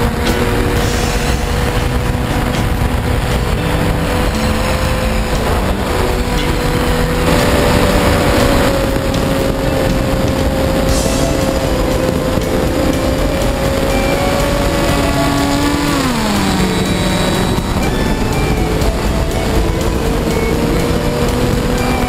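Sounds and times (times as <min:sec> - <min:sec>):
electric motor and propeller whine: 0:00.0 - 0:22.0
wind rush on microphone: 0:00.0 - 0:22.0.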